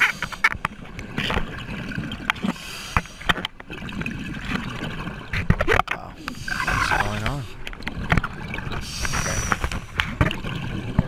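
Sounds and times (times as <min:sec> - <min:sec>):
underwater breathing bubbles: 0:00.0 - 0:11.0.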